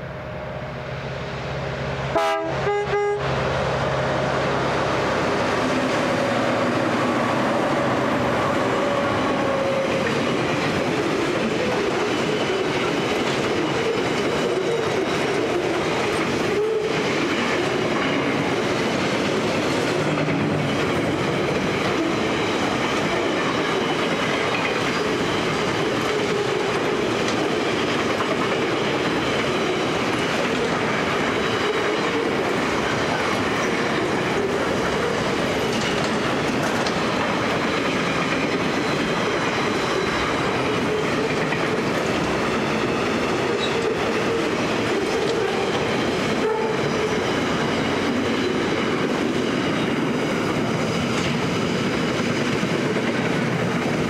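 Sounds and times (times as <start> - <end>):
boxcar wheels on rails: 3.2 - 54.0.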